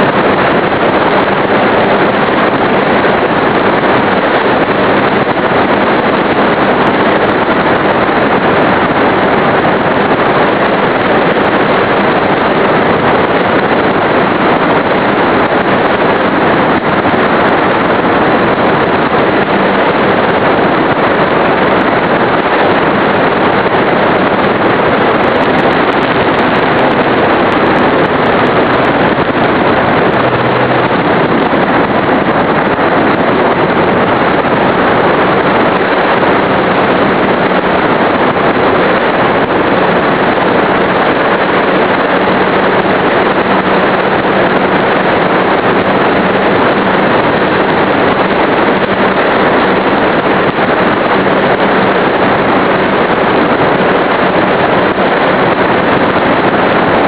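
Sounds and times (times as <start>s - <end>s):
airflow rushing: 0.0s - 57.0s
propeller noise: 0.0s - 57.0s.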